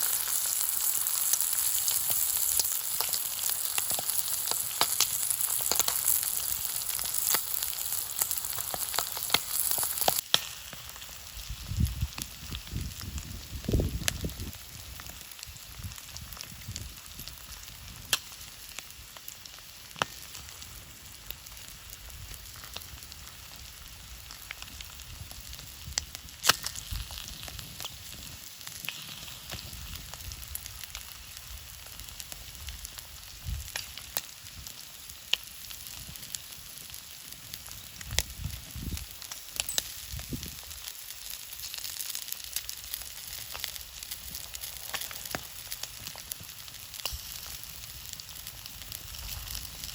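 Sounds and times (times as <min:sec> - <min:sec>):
bacon and eggs sizzling in oil: 0:00.0 - 0:49.9.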